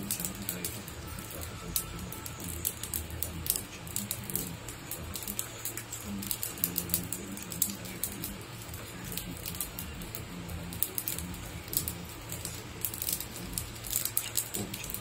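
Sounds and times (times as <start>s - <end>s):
low voice chanting: 0.0s - 13.8s
fire crackling and popping: 0.0s - 15.0s.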